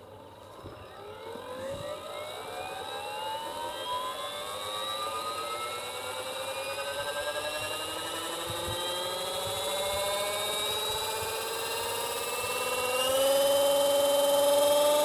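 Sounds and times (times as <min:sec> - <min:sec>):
model helicopter rotor whine: 0:00.0 - 0:15.0.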